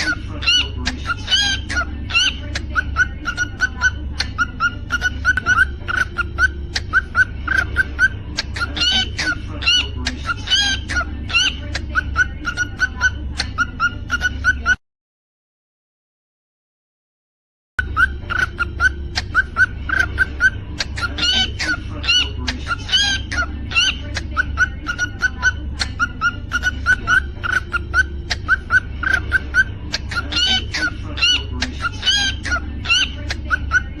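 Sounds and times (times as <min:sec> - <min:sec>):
steady low hum: 0:00.0 - 0:14.7, 0:17.8 - 0:34.0
cockatiel chirping and whistling: 0:00.0 - 0:14.8, 0:17.8 - 0:34.0.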